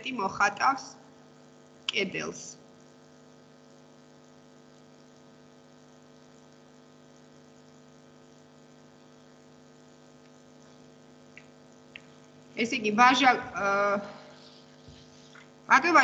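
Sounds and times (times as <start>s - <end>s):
faint electrical hum with hiss: 0.0s - 16.0s.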